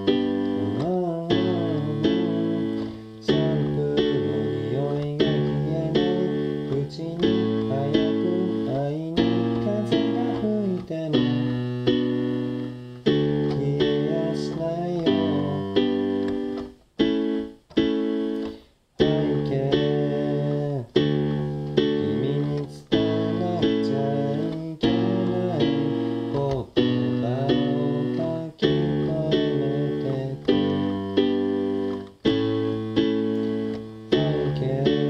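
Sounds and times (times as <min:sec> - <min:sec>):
keyboard playing chords: 0:00.0 - 0:35.0.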